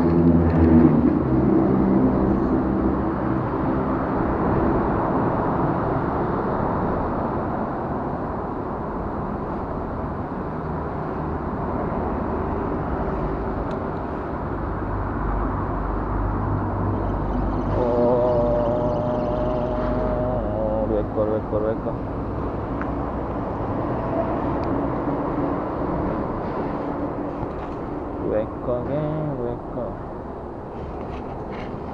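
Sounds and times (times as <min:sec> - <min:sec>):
lorries crossing bridge: 0:00.0 - 0:31.9
road traffic rumble: 0:00.0 - 0:31.9.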